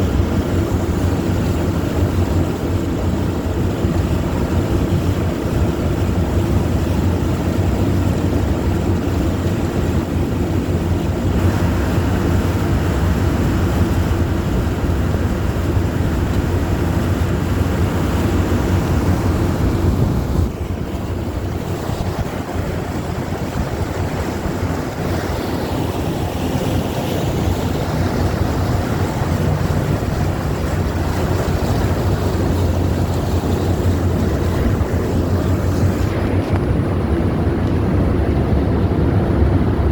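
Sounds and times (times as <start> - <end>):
boat engine drone: 0.0 - 39.9
rushing water: 0.0 - 39.9
wind on microphone: 0.0 - 39.9.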